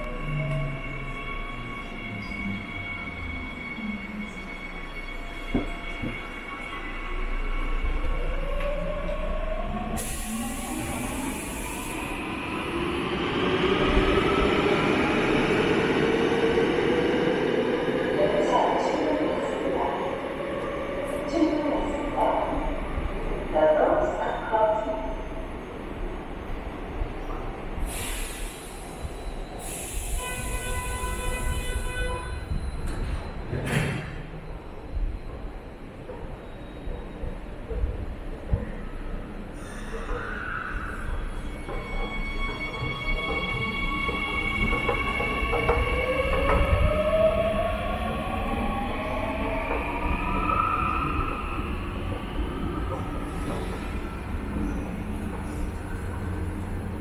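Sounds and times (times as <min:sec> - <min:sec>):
subway train motors whining: 0:00.0 - 0:57.0.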